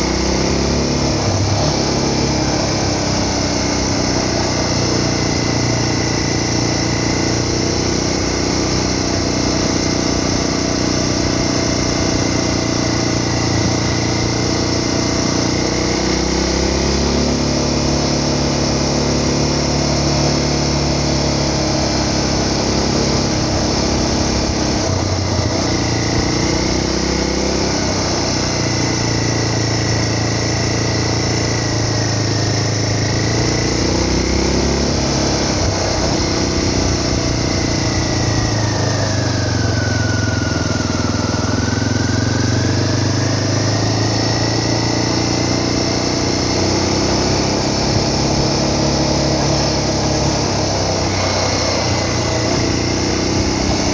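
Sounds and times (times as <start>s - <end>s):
constant rushing noise: 0.0s - 53.9s
vehicle engine running: 0.0s - 53.9s.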